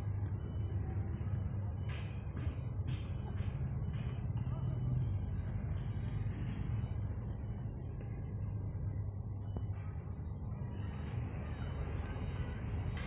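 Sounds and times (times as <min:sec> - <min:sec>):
diesel engines rumbling: 0:00.0 - 0:13.0.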